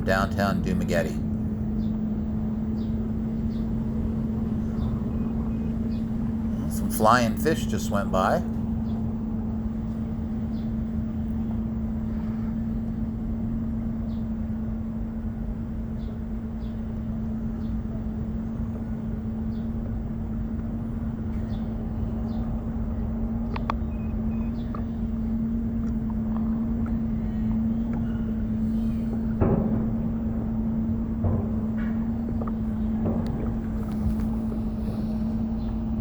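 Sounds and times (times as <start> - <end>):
wind and water rumble: 0.0 - 36.0.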